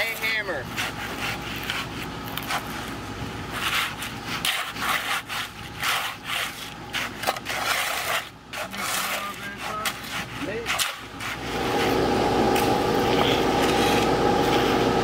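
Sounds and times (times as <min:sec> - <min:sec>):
shovels scraping wet concrete: 0:00.0 - 0:15.0.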